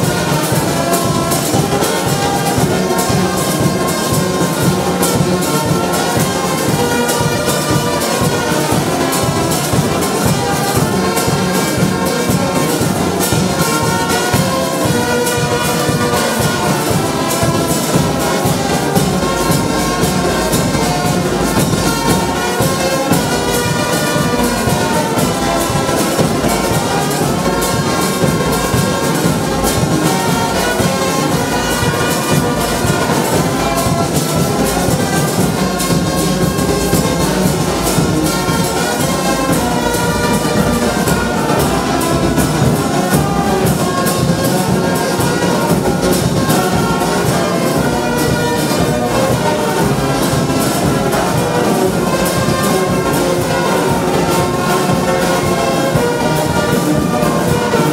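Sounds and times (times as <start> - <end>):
brass band playing: 0.0 - 57.9
steady drumbeat: 0.0 - 57.9.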